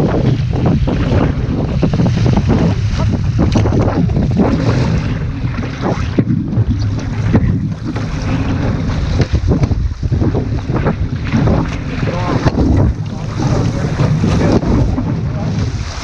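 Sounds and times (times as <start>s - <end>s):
paddle strokes splashing: 0.0s - 16.0s
water rushing and splashing: 0.0s - 16.0s
wind buffeting microphone: 0.0s - 16.0s.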